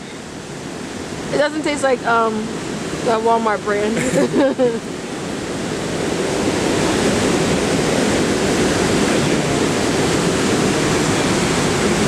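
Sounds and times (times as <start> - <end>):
fast-flowing water rushing: 0.0 - 12.0.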